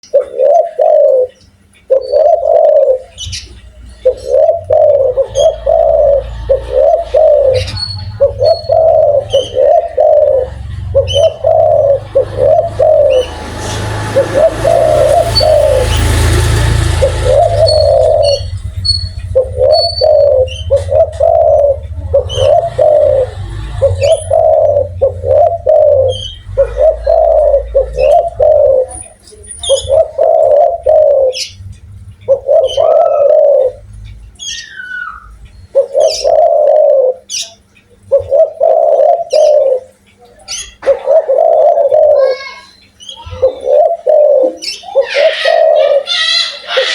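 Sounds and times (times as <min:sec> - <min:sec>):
dove cooing: 0:00.0 - 0:46.9
small birds chirping: 0:00.0 - 0:46.9.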